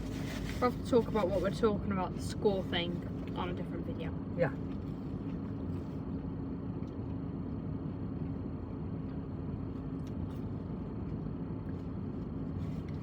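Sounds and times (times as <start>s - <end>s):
low background rumble with hum: 0.0s - 13.0s.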